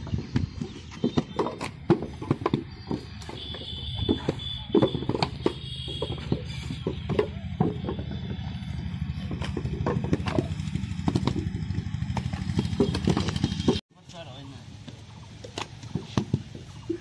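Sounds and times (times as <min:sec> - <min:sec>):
engine pulsing rumble: 0:00.0 - 0:13.8.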